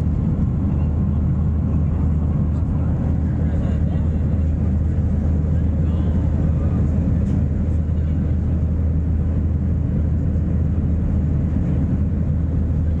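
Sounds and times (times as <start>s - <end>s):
jet engines droning: 0.0s - 13.0s.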